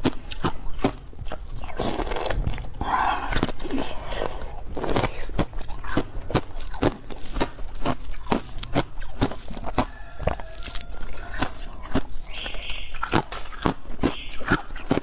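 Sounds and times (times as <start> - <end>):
person crunching ice: 0.0 - 15.0.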